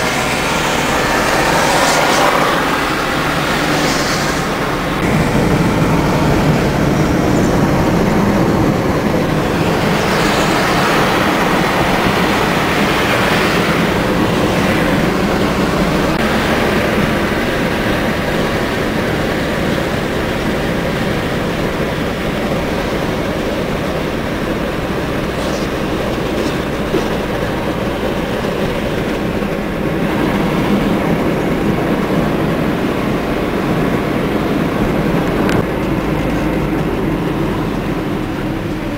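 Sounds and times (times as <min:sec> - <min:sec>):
car interior road rumble: 0:00.0 - 0:38.9.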